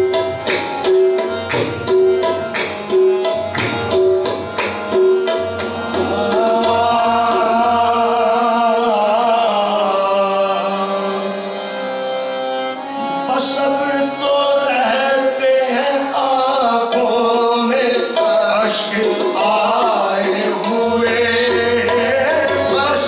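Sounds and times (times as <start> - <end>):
tabla beating: 0.0 - 10.0, 13.4 - 23.0.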